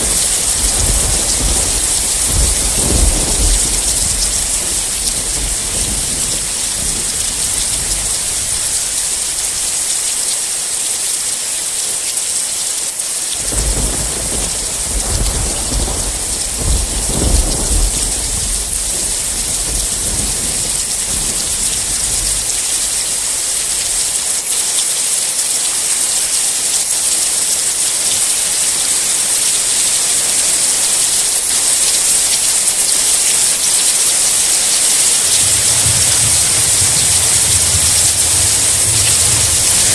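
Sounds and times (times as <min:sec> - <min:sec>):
thunder rumbling and cracking: 0:00.0 - 0:10.2, 0:13.4 - 0:24.5, 0:27.0 - 0:39.9
heavy rain: 0:00.0 - 0:39.9.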